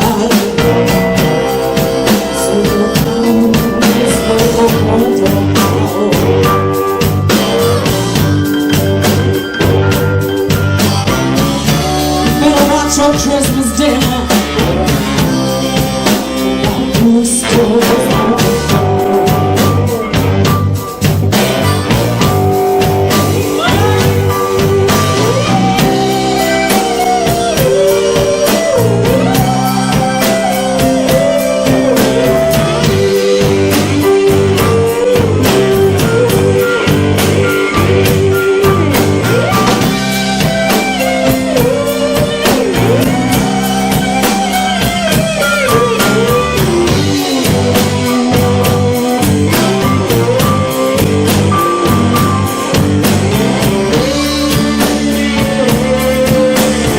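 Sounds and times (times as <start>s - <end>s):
bending lead guitar line: 0.0s - 56.9s
blues-rock band playing: 0.0s - 56.9s.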